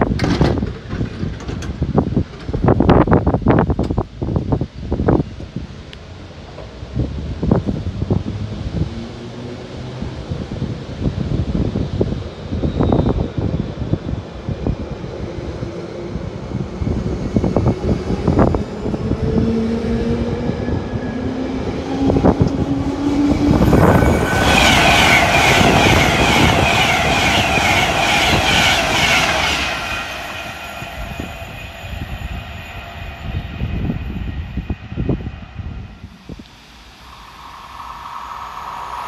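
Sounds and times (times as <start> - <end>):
express train passing: 4.6 - 39.0.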